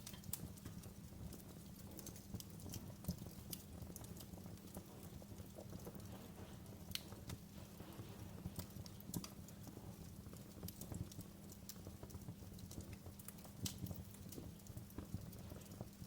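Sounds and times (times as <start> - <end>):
low rumble of burning: 0.0 - 16.0
wood fire crackling: 0.0 - 16.0.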